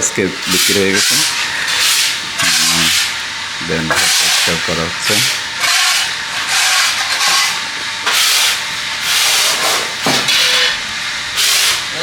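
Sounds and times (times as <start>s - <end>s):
broom sweeping floor: 0.4s - 3.1s, 3.8s - 12.0s.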